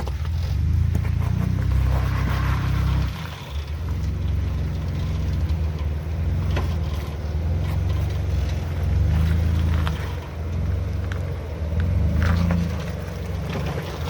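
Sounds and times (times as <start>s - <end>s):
off-road engine crawling: 0.0s - 14.0s.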